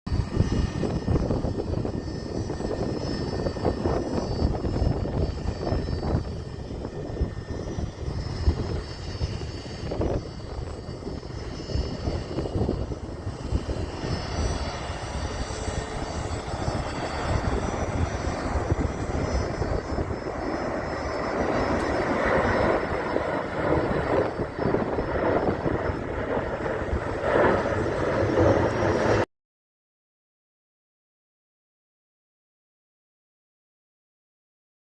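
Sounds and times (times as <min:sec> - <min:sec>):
wind buffeting microphone: 0:00.1 - 0:29.2
jet engines whining: 0:00.1 - 0:29.3.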